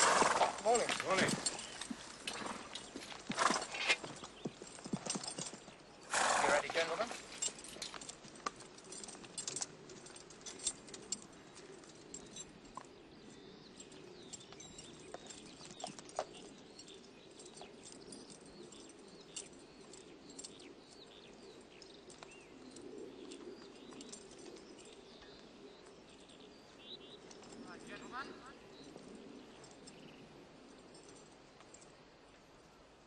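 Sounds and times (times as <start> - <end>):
birds chirping and calling: 0.0 - 8.1, 8.8 - 30.3.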